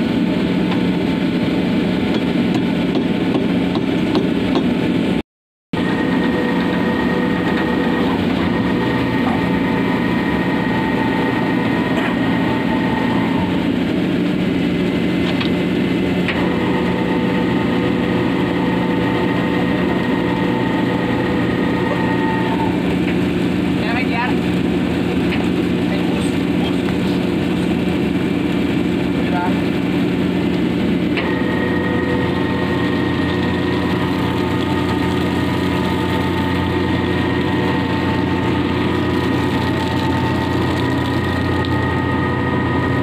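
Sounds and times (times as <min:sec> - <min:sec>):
high steady whine: 0:00.0 - 0:05.2, 0:05.8 - 0:43.0
ship engine droning: 0:00.0 - 0:05.2, 0:05.8 - 0:43.0.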